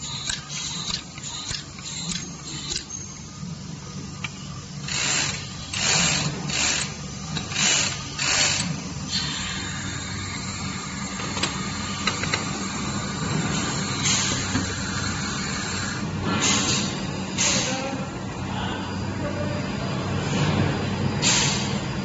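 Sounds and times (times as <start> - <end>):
capsule filling machine humming: 0.0 - 22.0.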